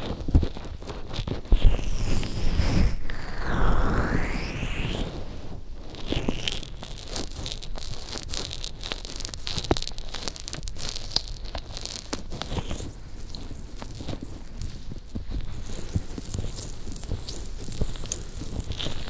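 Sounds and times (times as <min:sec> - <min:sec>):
fingers rubbing microphone with lotion: 0:00.0 - 0:19.0.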